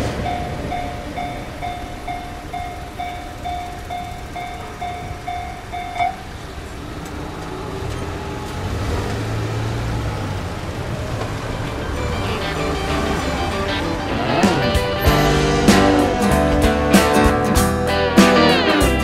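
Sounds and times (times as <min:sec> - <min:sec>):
level crossing alarm dinging: 0:00.0 - 0:08.4, 0:10.4 - 0:18.1
road traffic rumbling: 0:00.0 - 0:19.0.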